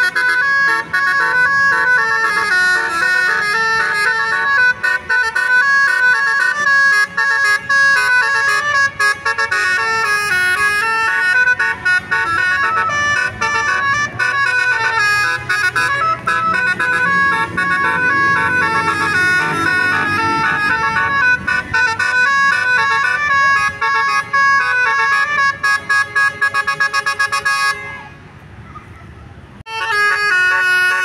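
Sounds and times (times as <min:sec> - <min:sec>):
air horn playing fast melody: 0:00.0 - 0:28.2, 0:29.7 - 0:31.0.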